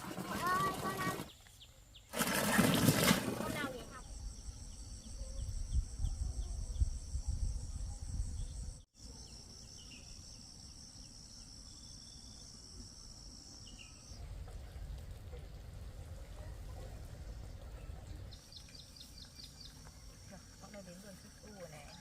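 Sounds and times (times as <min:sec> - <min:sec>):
insects droning: 0:03.4 - 0:22.0.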